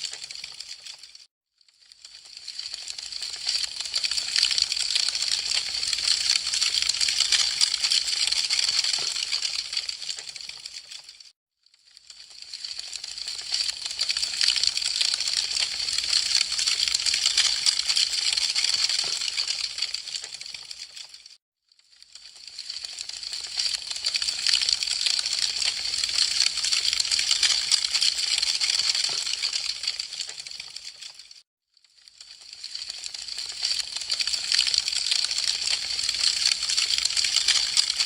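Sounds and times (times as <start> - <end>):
wood fire crackling: 2.1 - 11.0, 12.1 - 21.1, 22.3 - 31.1, 32.4 - 38.0.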